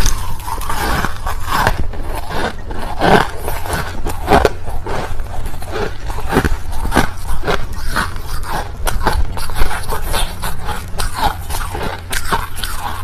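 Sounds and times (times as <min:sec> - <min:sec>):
ice crunching being chewed: 0:00.0 - 0:13.0.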